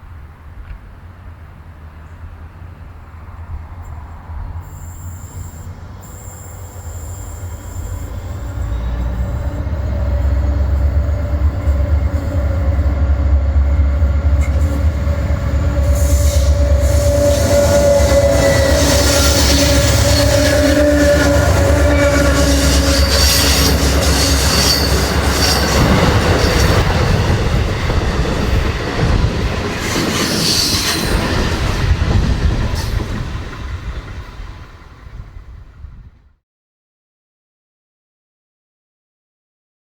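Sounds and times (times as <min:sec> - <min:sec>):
diesel locomotive engine drone: 0:00.0 - 0:36.2
train wheels squealing: 0:03.8 - 0:35.8.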